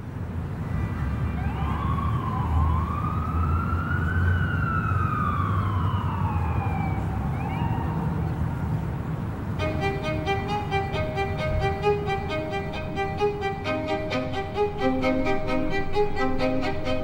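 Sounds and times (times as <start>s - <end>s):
low rumble of street traffic: 0.0s - 17.0s
emergency vehicle siren wailing: 1.2s - 9.0s, 9.6s - 17.0s.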